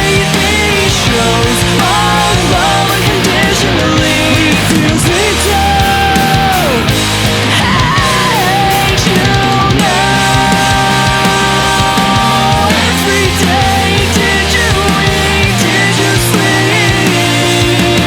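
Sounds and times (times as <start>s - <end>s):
bending lead guitar melody: 0.0s - 18.0s
fast punk rock band: 0.0s - 18.0s.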